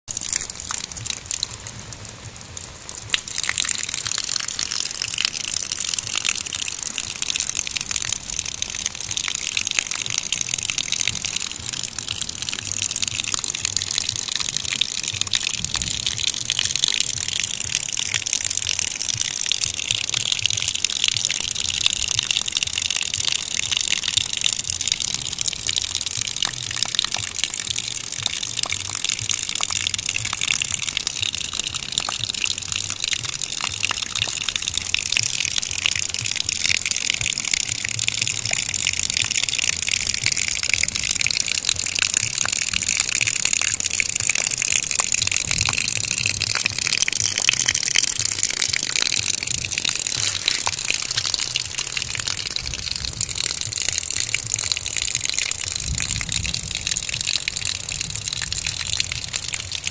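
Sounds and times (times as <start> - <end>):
hedgehog eating wet crackling: 0.1 - 59.9.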